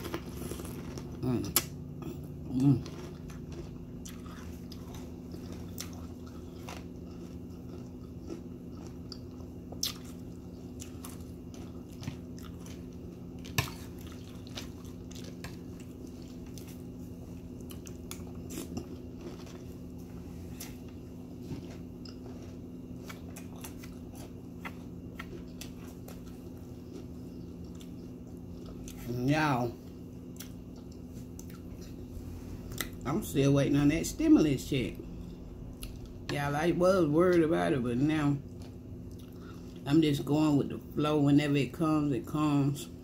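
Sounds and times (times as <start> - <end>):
chewing and crunching cereal: 0.0 - 41.0
steady low hum: 0.0 - 43.0.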